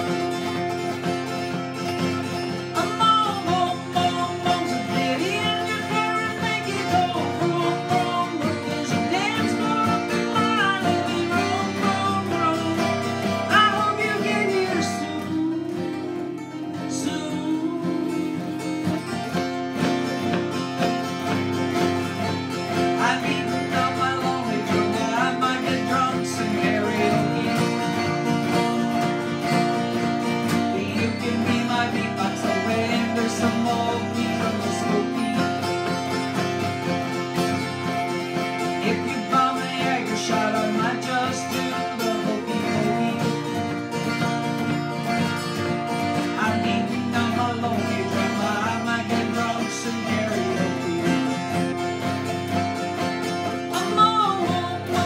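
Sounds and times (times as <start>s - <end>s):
acoustic guitars strumming: 0.0s - 55.0s
person singing: 2.1s - 55.0s.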